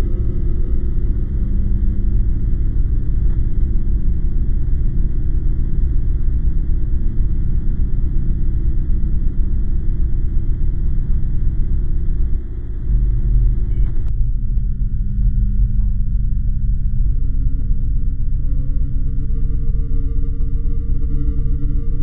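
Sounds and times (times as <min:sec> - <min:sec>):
dark ambient drone: 0:00.0 - 0:22.0.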